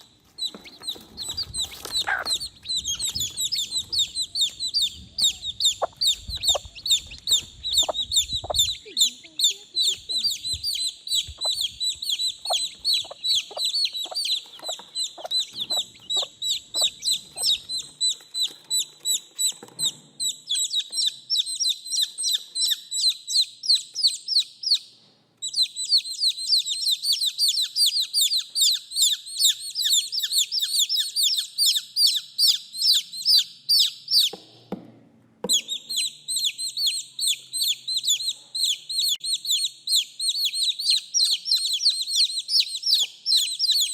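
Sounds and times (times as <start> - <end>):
baby chicks peeping: 0.0 - 34.8, 35.4 - 43.9.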